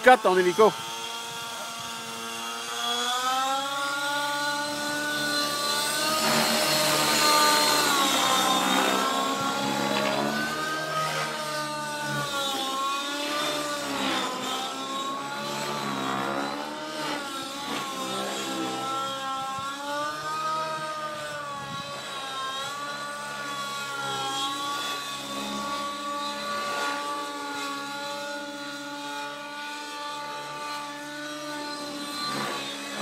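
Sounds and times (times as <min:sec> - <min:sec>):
model helicopter rotor whine: 0:00.0 - 0:33.0.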